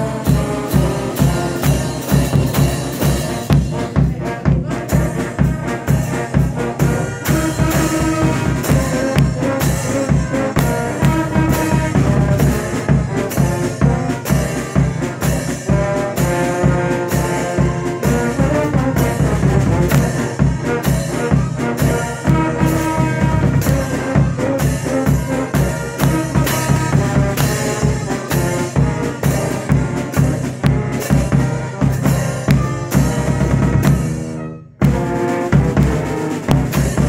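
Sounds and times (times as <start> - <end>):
concert band playing a march: 0.0 - 37.0
steady drum beat: 0.0 - 37.0.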